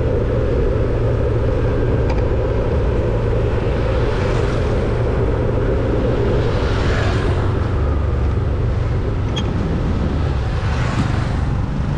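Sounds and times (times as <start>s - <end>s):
engine and road noise rumble: 0.0s - 11.9s
passing motorbikes: 0.0s - 11.9s.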